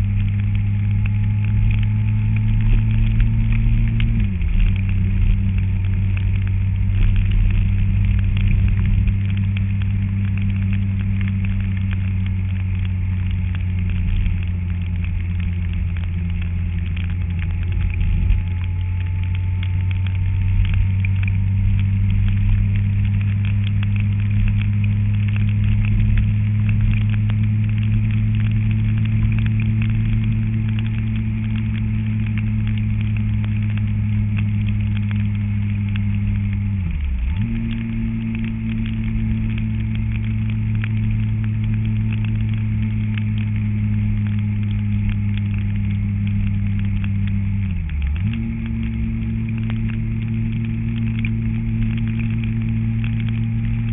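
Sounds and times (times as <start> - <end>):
engine droning: 0.0 - 53.9.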